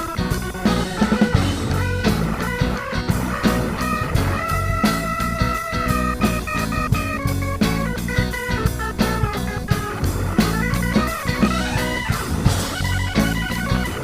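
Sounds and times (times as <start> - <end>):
electric guitar quick runs: 0.0 - 14.0
rock music: 0.0 - 14.0.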